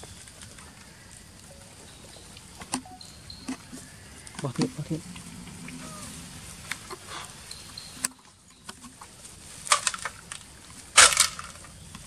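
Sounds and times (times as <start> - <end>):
monkeys rustling in leaves: 0.0 - 12.0.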